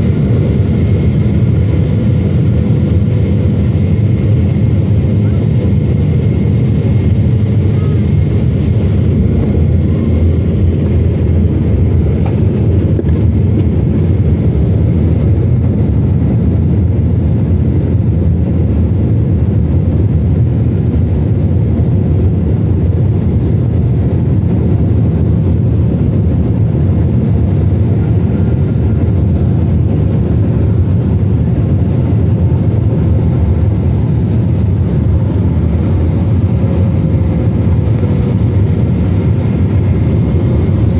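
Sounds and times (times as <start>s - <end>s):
airliner cabin low rumble: 0.0s - 40.9s.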